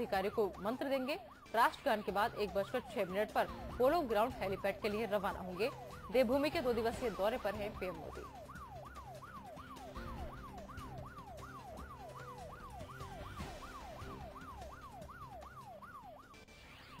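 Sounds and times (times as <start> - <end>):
siren-style sweeping tone: 0.0 - 17.0.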